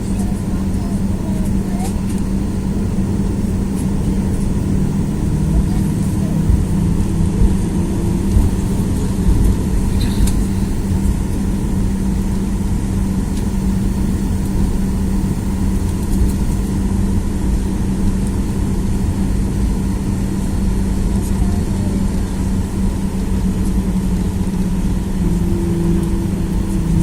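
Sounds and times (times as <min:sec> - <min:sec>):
jet engines humming in cabin: 0:00.0 - 0:27.0.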